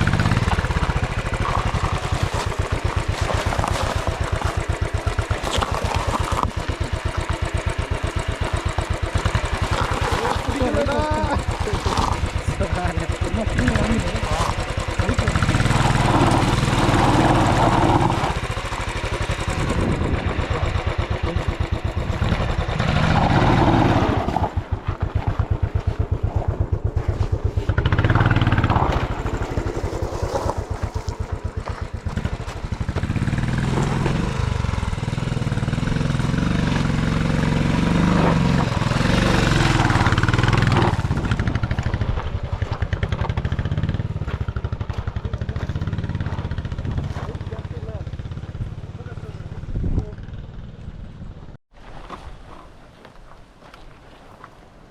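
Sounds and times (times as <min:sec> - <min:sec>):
motorcycle engine revving: 0:00.0 - 0:51.6.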